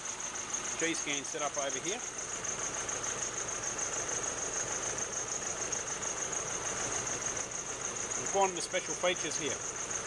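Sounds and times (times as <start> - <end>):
diesel engine idling roughly: 0.0 - 10.0.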